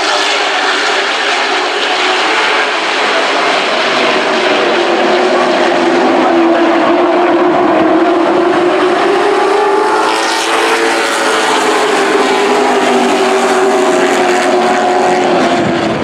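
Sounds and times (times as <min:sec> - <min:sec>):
racing truck engines: 0:00.0 - 0:16.0.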